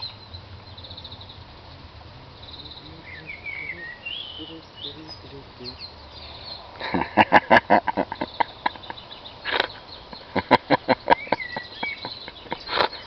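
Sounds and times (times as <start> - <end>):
bird-like chirp: 0.0 - 7.1, 7.9 - 13.0.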